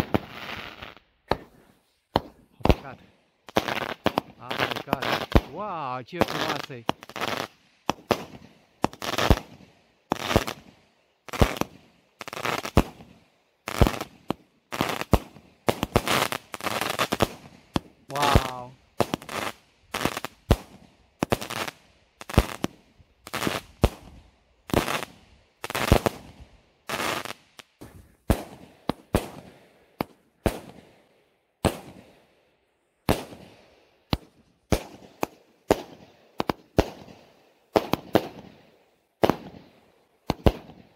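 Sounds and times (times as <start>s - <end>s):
firework shots: 0.0s - 31.0s, 31.6s - 32.2s, 33.0s - 40.9s.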